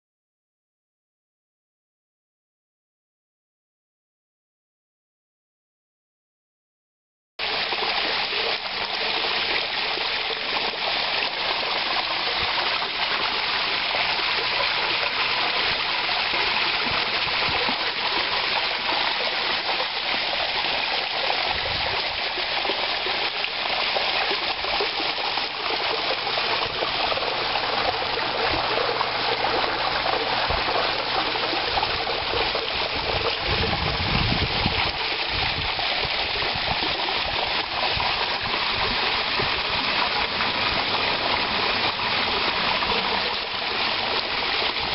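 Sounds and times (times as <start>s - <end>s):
waterfall splashing into pool: 7.4s - 44.9s.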